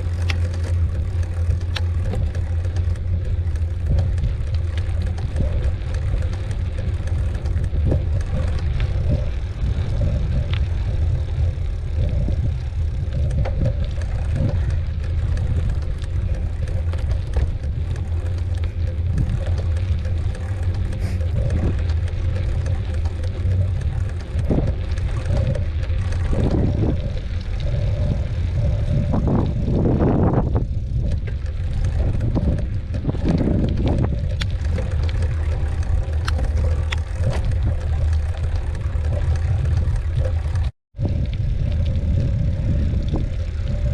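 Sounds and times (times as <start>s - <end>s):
bike rattles and knocks: 0.0s - 43.9s
tyres rumbling on dirt: 0.0s - 43.9s
wind on microphone: 0.0s - 43.9s.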